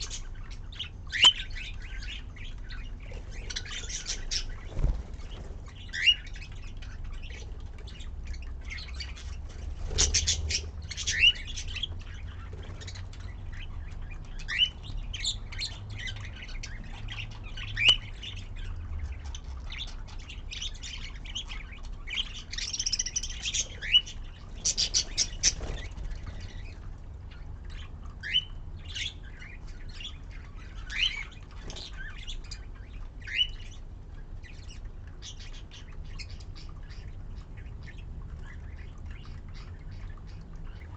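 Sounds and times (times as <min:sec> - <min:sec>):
budgerigars chirping: 0:00.0 - 0:40.9
steady low hum: 0:00.0 - 0:40.9.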